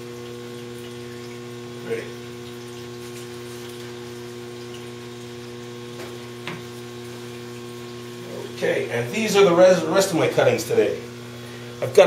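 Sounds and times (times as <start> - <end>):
water pump humming: 0.0 - 12.0.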